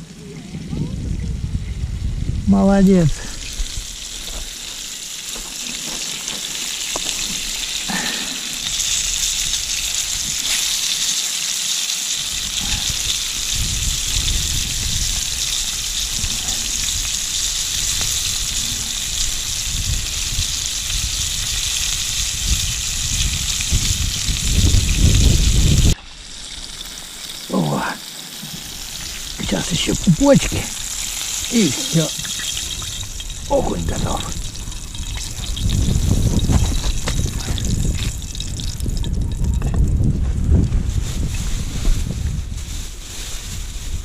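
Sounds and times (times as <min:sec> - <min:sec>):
fish sizzling in a pan: 0:03.3 - 0:39.5.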